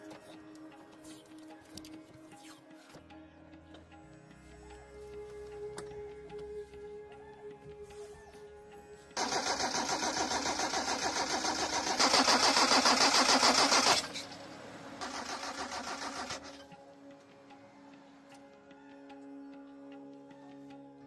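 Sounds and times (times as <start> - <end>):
machine motor with pulsing beat: 0.0 - 21.0.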